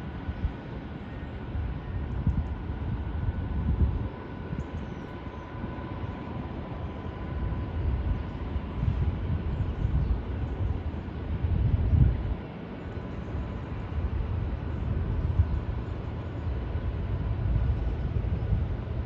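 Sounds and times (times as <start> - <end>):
faint steady whine: 0.0 - 19.0.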